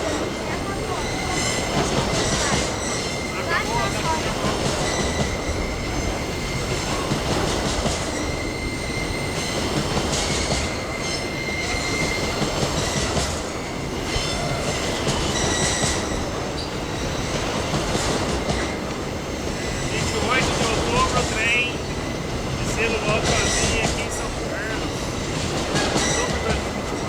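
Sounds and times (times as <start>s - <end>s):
high wheel squeals: 0.0s - 17.6s, 18.6s - 27.0s
freight wagons rumbling on rails: 0.0s - 27.0s.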